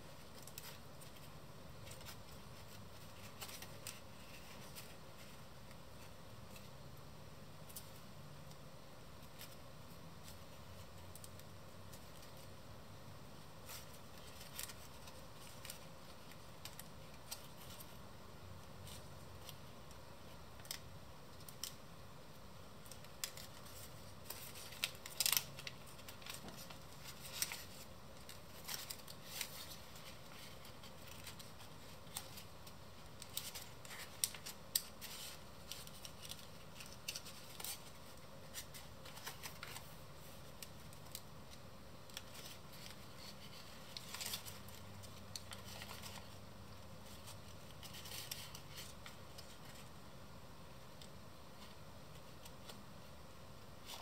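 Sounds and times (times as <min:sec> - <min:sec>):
paper being folded and creased: 0:00.0 - 0:06.8, 0:09.2 - 0:12.6, 0:13.4 - 0:21.8, 0:22.8 - 0:50.0, 0:53.7 - 0:54.0.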